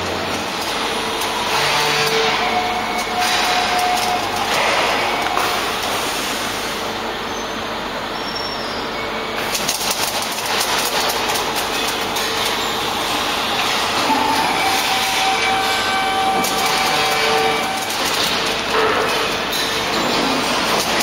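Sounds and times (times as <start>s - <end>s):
machinery running: 0.0s - 21.0s
steady machine whine: 0.0s - 21.0s.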